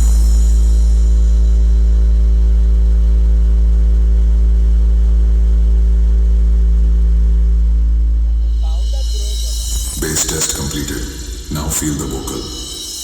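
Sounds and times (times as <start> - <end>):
deep bass test tone hum: 0.0 - 13.0.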